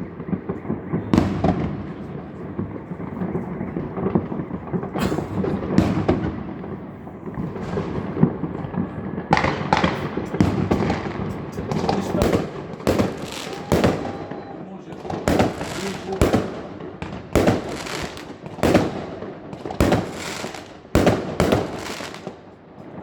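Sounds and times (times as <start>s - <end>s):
fireworks bangs and crackling: 0.0s - 23.0s
sharp fireworks reports: 0.0s - 23.0s.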